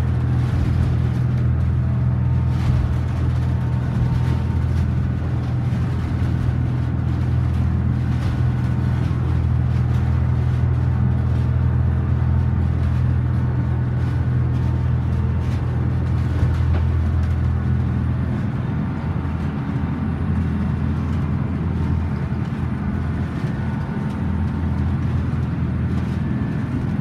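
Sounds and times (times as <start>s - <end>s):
boat diesel engines droning: 0.0s - 27.0s
water rushing along hull: 0.0s - 27.0s.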